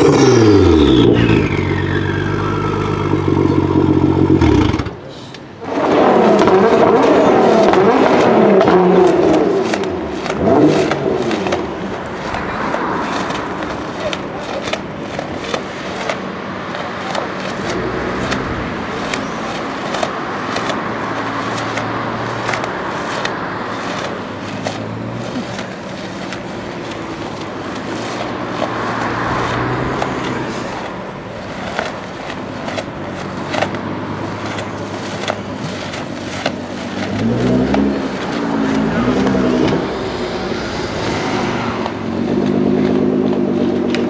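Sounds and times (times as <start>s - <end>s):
exhaust clicks and crackles: 0.0s - 44.0s
sports car engine at low revs: 0.0s - 44.0s.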